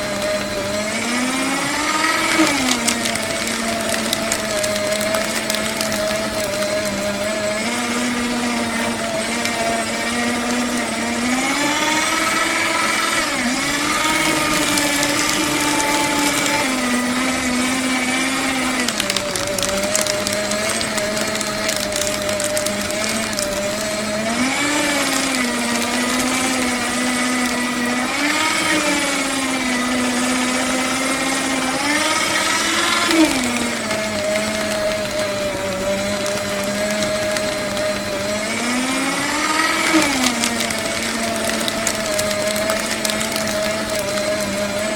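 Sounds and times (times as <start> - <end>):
paper being shredded: 0.0 - 44.9
paper shredder motor hum: 0.0 - 44.9.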